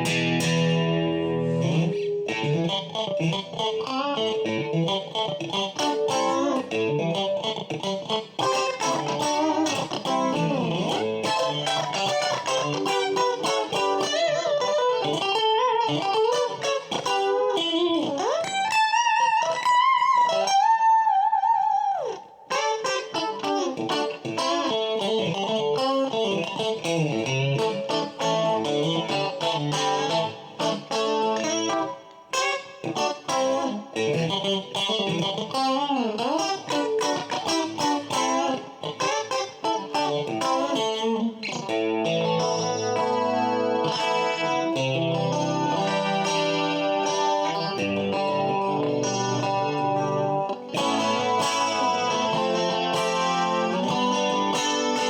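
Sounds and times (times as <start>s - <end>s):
clean electric guitar playing: 0.0s - 55.0s.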